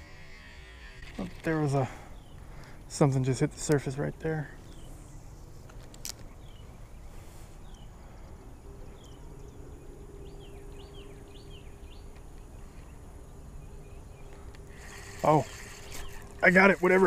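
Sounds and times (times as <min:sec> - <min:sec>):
low outdoor rumble: 0:00.0 - 0:17.0
small birds chirping: 0:00.1 - 0:17.0.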